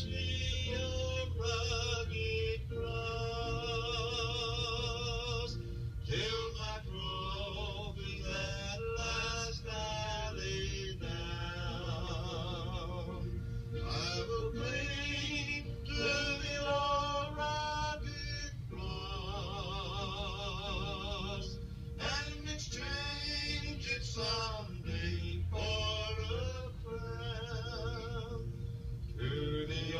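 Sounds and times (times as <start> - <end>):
person singing unaccompanied: 0.0 - 29.9
steady low hum: 0.0 - 29.9.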